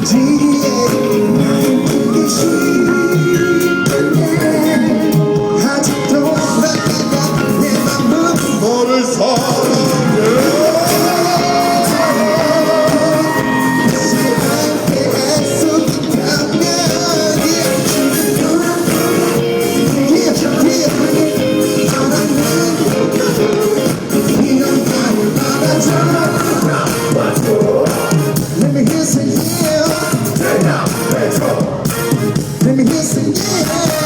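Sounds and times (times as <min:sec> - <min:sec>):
pop song with singing: 0:00.0 - 0:34.0.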